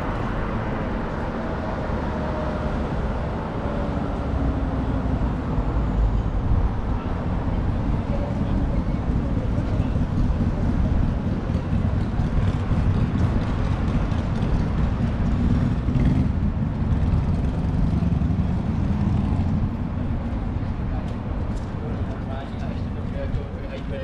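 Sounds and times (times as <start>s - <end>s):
traffic rumble: 0.0s - 24.0s
vehicles passing close by: 0.0s - 24.0s.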